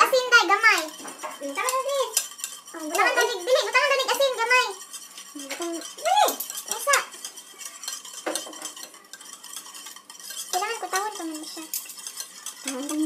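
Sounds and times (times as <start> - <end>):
utensil stirring in a bowl: 0.0 - 13.0.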